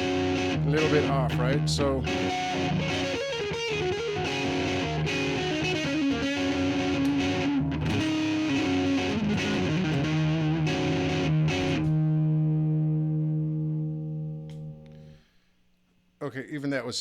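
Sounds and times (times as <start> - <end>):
overdriven electric guitar: 0.0 - 15.2
looped guitar playback: 0.0 - 15.3.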